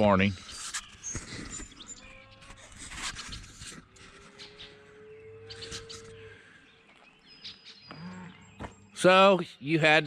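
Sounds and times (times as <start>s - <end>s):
distant farm animal calling: 0.0s - 9.1s.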